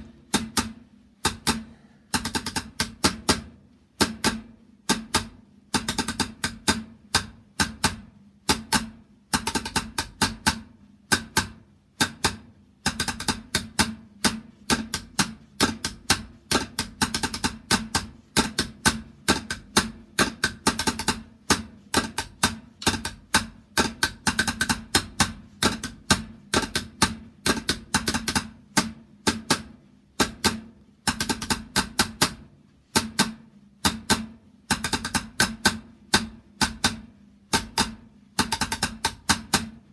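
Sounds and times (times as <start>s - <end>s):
snare drum rolls: 0.0s - 39.8s.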